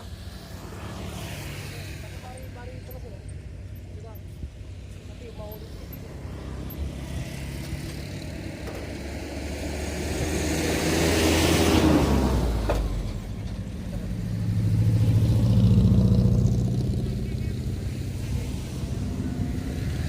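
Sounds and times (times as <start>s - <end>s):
vehicle engines passing: 0.0s - 20.0s.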